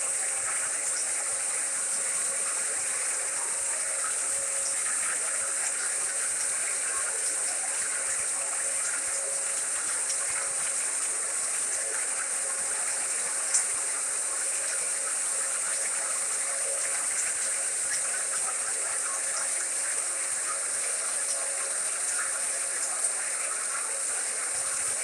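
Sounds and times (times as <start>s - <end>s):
faint steady hum: 0.0s - 25.0s
steady white noise hiss: 0.0s - 25.0s.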